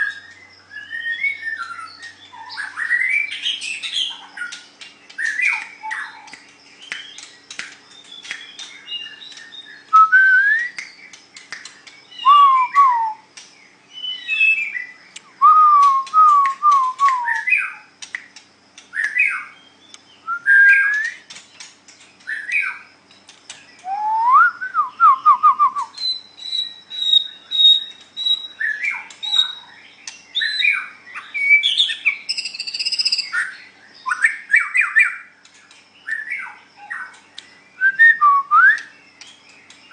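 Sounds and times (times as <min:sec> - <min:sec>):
bird singing whistled phrases: 0:00.0 - 0:13.3, 0:13.9 - 0:17.9, 0:18.9 - 0:21.3, 0:23.7 - 0:35.3, 0:36.0 - 0:39.9.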